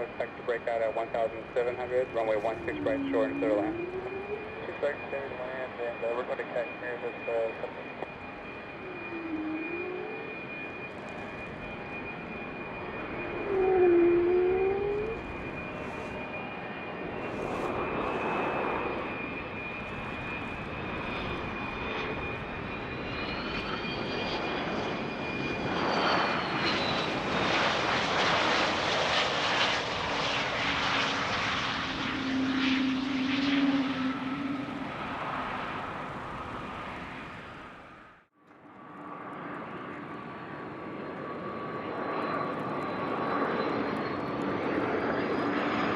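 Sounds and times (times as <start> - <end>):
jet engine rushing noise: 0.0 - 38.3
jet engine whine: 0.0 - 45.9.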